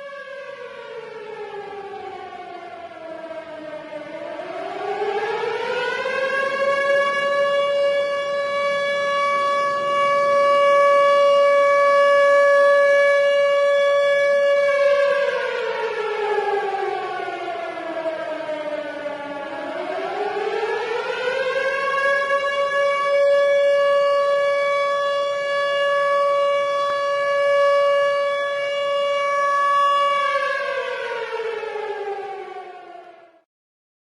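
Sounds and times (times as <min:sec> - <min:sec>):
warning siren rising and falling: 0:00.0 - 0:33.4.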